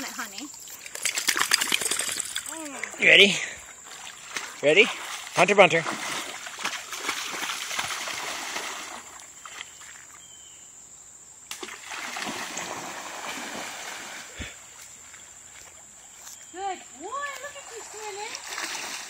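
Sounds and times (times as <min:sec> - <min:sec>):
water splashing: 0:00.0 - 0:10.2, 0:11.5 - 0:16.0, 0:17.0 - 0:19.0.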